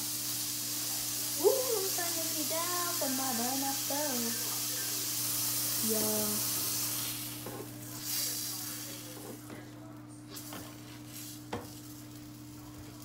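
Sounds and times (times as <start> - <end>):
patty sizzling in frying pan: 0.0 - 9.5, 10.3 - 13.0.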